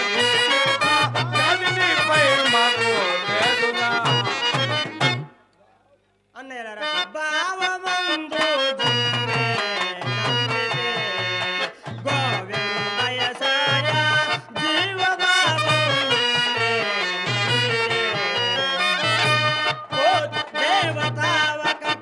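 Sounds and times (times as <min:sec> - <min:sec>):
harmonium melody: 0:00.0 - 0:05.5, 0:06.4 - 0:22.0.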